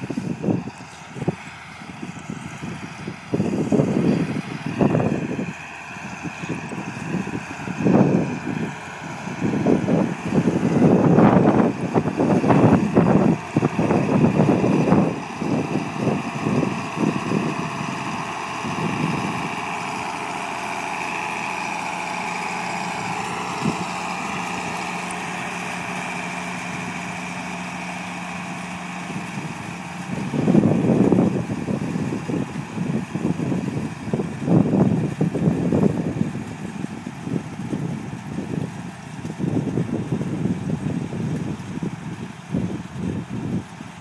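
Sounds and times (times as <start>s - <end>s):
tractor diesel engine running: 0.0s - 44.0s
wind buffeting microphone: 0.0s - 44.0s.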